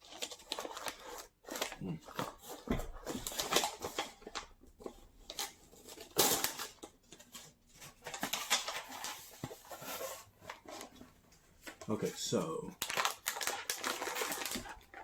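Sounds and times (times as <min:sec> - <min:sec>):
wrappers rustling and crinkling: 0:00.0 - 0:15.0.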